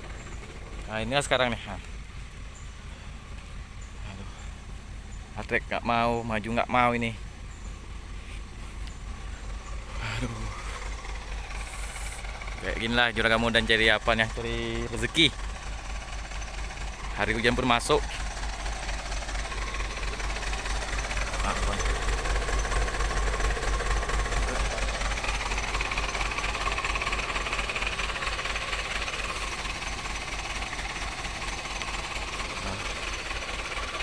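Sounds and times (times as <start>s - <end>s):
truck engine knocking rumble: 0.0s - 34.0s.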